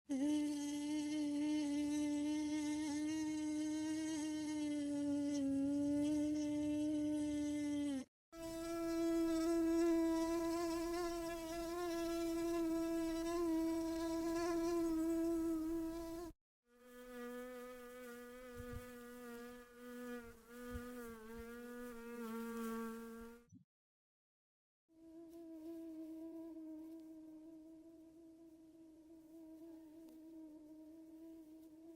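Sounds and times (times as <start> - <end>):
mosquito buzzing: 0.1 - 23.5, 24.9 - 31.9.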